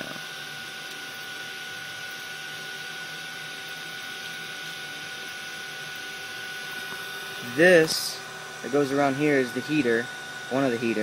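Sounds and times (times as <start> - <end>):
cooling fans whirring: 0.0 - 11.0
faint high whine: 0.0 - 11.0.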